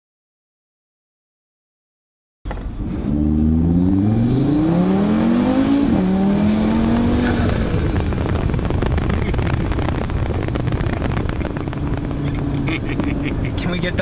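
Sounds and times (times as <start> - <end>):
car engine accelerating hard: 2.5 - 14.0.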